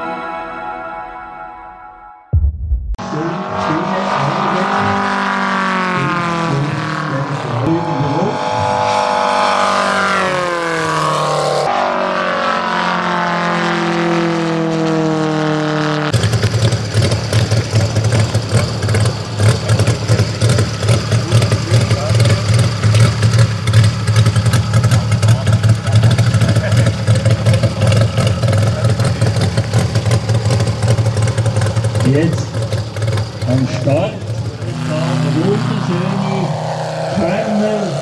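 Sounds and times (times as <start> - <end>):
engine throbbing on ground: 2.3 - 38.0
model plane engine in flight: 3.1 - 38.0.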